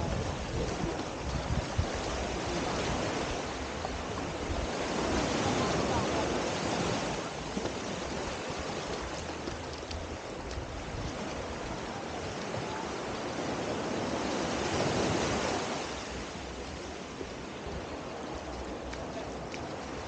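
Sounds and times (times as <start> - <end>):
small waves washing on sand: 0.0 - 20.0.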